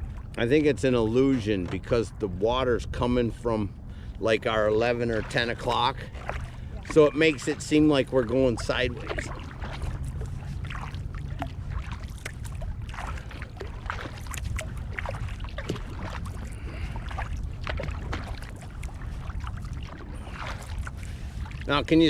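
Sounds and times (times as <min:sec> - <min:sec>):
paddle blades dipping through water: 0:00.0 - 0:22.0
water splashes and drips: 0:00.0 - 0:22.0.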